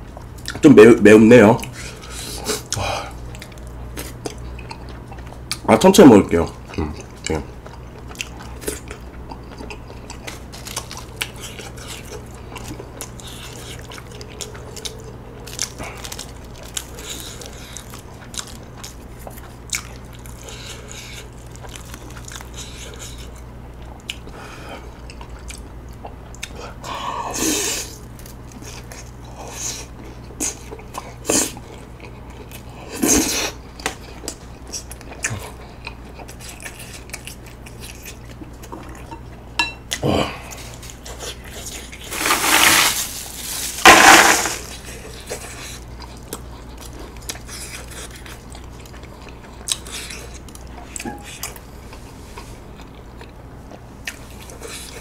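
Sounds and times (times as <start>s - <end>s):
steady low hum: 0.0s - 55.0s
chewing rice cakes: 1.6s - 43.9s, 44.6s - 55.0s.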